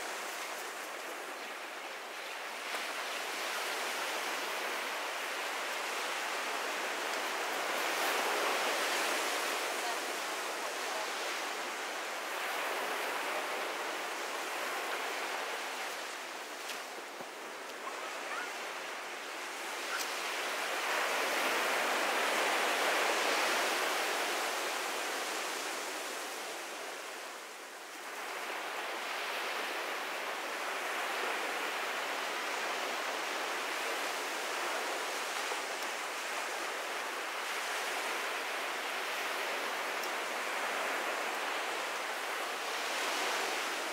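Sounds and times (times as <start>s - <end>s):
surf washing onto beach: 0.0s - 43.9s.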